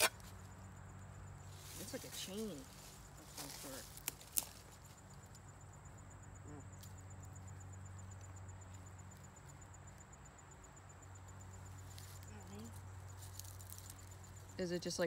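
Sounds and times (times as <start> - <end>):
insect chirping: 0.0 - 15.0
woodland ambience: 0.0 - 15.0.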